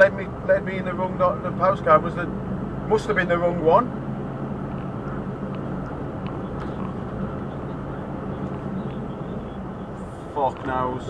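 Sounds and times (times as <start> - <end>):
diesel lorry engine humming: 0.0 - 11.0.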